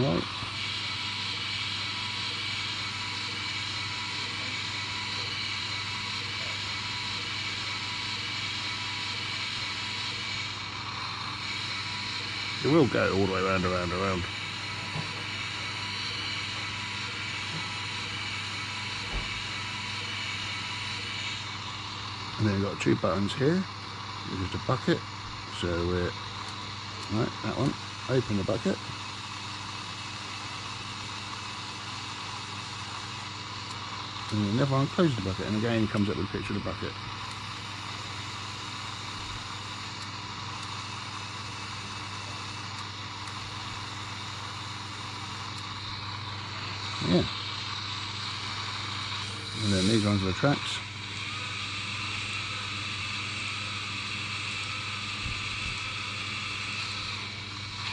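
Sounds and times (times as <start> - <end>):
toy excavator motor running: 0.0 - 57.9.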